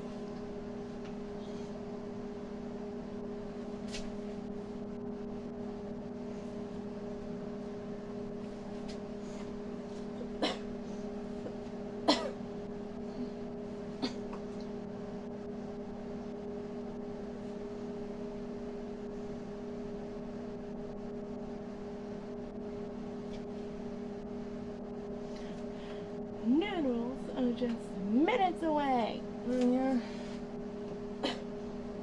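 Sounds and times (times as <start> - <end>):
microwave oven humming: 0.0 - 32.0.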